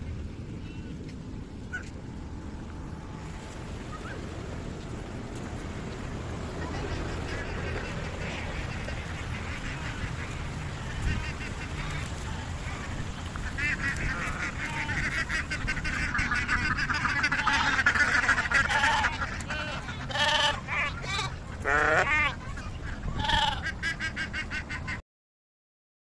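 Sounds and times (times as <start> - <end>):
ducks quacking: 3.0 - 25.0.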